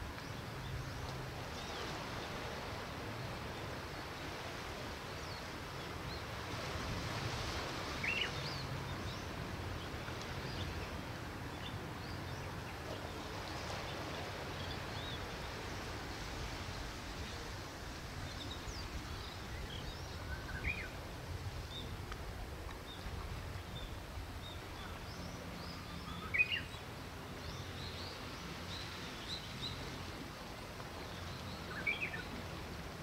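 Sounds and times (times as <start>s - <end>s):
gentle waves washing: 0.0s - 33.0s.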